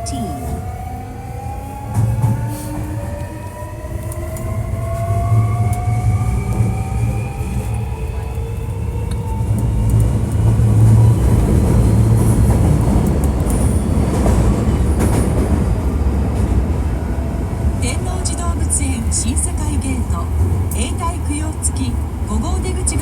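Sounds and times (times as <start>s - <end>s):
wheels rumbling on rail: 0.0s - 23.0s
train clicks: 1.9s - 16.6s, 18.0s - 23.0s.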